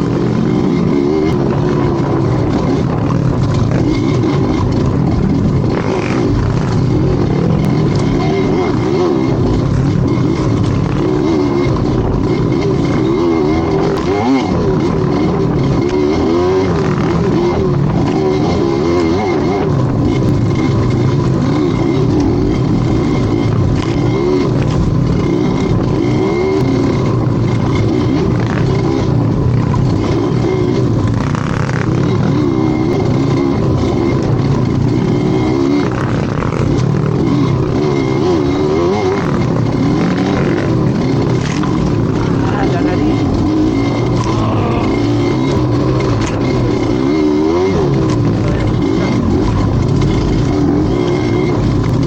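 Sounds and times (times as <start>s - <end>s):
vehicle engine revving: 0.0s - 52.0s.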